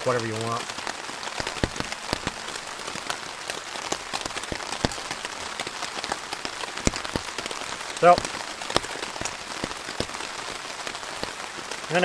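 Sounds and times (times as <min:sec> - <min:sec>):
heavy rain hissing: 0:00.0 - 0:12.0
raindrops ticking close by: 0:00.0 - 0:12.0.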